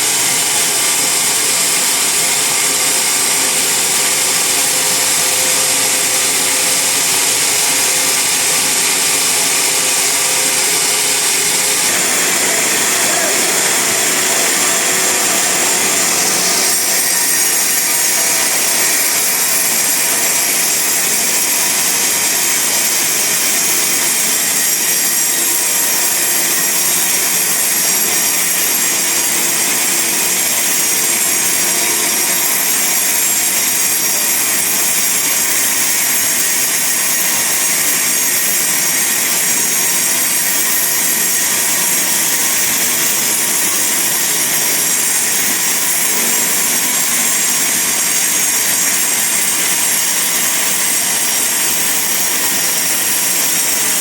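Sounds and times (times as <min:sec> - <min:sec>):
band sawmill sawing through log: 0:00.0 - 0:54.0.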